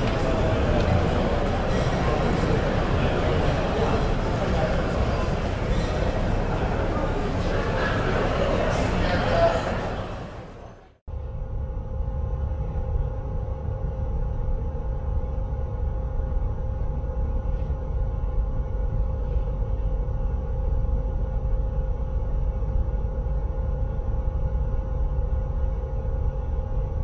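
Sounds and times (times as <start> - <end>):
electrical hum: 0.0 - 27.0
low train rumble: 0.0 - 27.0.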